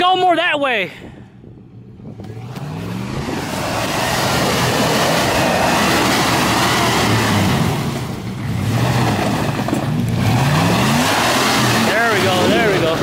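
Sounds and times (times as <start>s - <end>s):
engine revving: 1.9s - 13.0s
tires spinning in mud and water: 2.2s - 13.0s.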